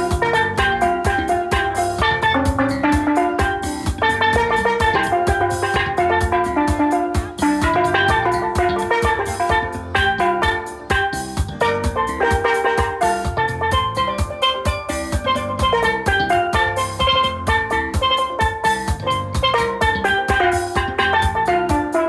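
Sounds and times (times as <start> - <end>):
steady drum beat: 0.0 - 22.0
steel pan melody: 0.0 - 22.0.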